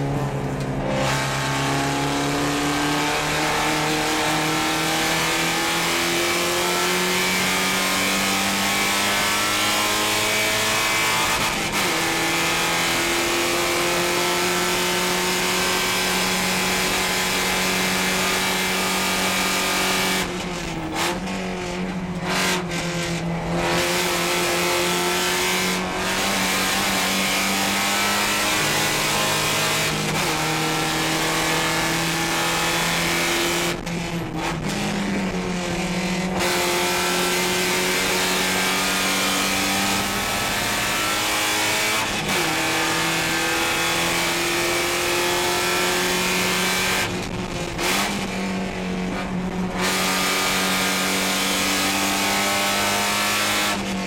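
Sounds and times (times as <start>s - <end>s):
race car engine accelerating: 0.0s - 54.0s
wind and road noise: 0.0s - 54.0s.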